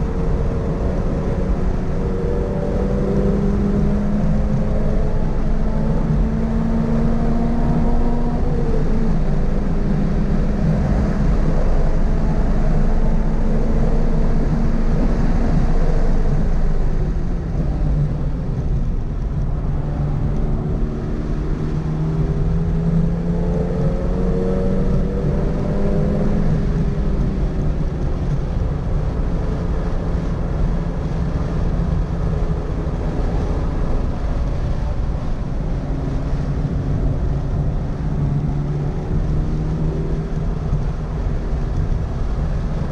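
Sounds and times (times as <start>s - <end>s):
car engine accelerating and slowing: 0.0s - 42.9s
road noise: 0.0s - 42.9s.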